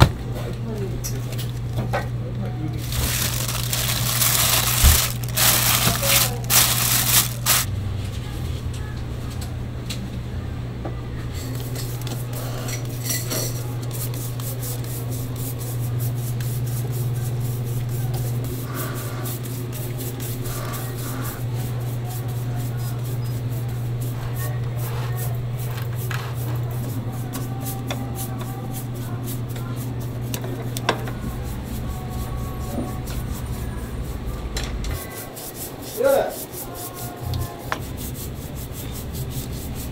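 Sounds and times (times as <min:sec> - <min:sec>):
oven low hum: 0:00.0 - 0:39.9.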